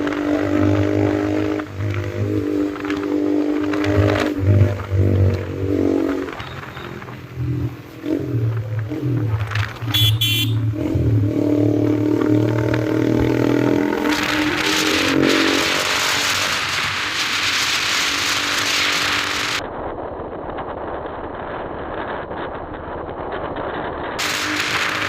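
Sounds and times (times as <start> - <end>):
motorcycle engine revving: 0.0 - 19.6, 22.0 - 25.0.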